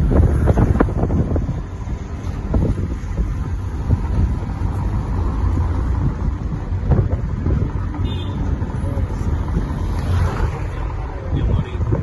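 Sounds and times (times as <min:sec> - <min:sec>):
road noise: 0:00.0 - 0:12.0
taxi engine: 0:00.0 - 0:12.0
wind buffeting microphone: 0:00.0 - 0:12.0.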